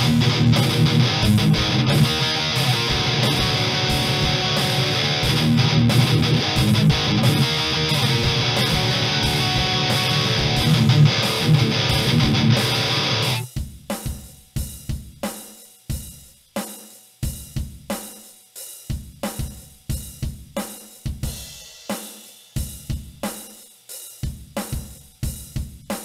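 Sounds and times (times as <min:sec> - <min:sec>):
drum machine beat: 0:00.0 - 0:26.0.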